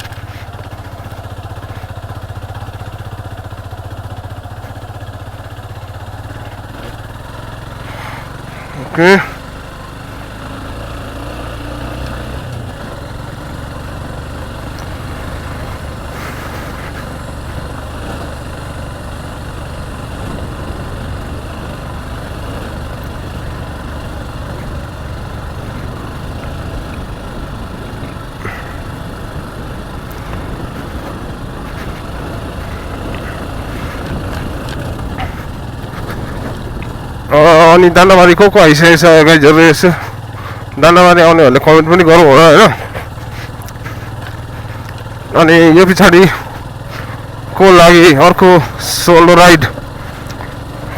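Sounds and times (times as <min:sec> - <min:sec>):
motorcycle engine running: 0:00.0 - 0:50.9
road and wind noise: 0:00.0 - 0:50.9.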